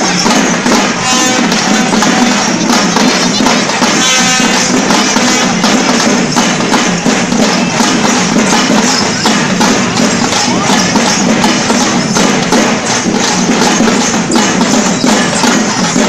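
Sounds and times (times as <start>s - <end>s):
fast dense drumming: 0.0s - 16.0s
jingling percussion: 0.0s - 16.0s.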